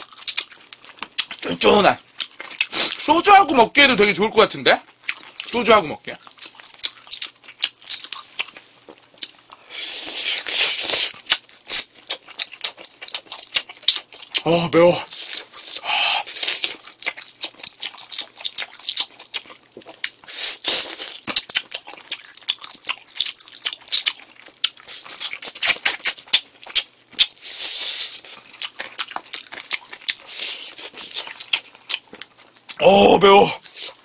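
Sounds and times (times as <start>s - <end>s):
wet chewing and lip smacks: 0.0s - 1.5s, 2.1s - 3.1s, 4.8s - 5.6s, 6.2s - 14.5s, 15.1s - 32.8s.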